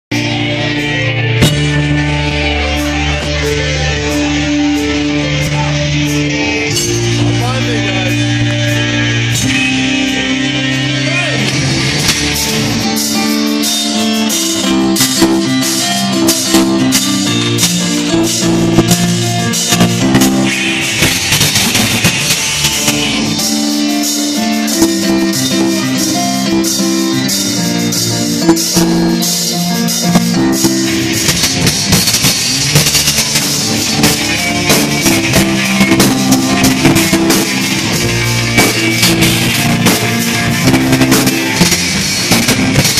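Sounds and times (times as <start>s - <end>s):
bass line: 0.0s - 42.9s
drum kit: 0.1s - 42.9s
electric guitar: 0.1s - 42.9s.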